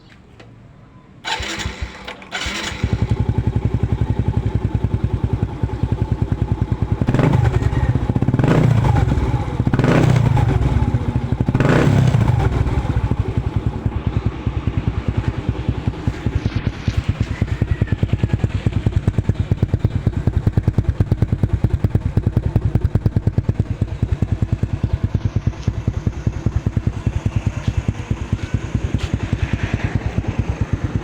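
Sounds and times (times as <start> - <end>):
motorcycle engine idling and revving: 1.2 - 31.0.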